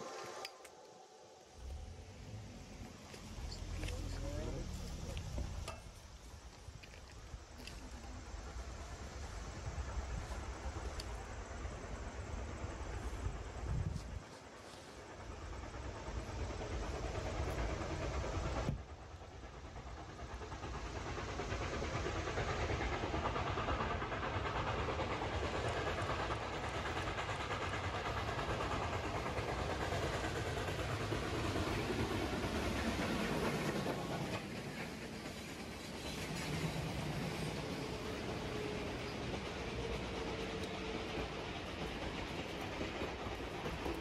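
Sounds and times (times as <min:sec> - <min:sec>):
train wheels clattering over rails: 0:01.6 - 0:44.0.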